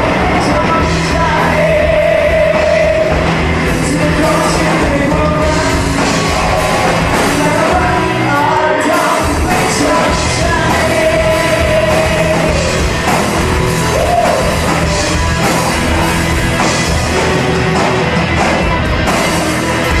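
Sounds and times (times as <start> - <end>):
person singing lead vocals: 0.0 - 16.1
live rock band: 0.0 - 20.0
steady drum beat: 0.0 - 20.0.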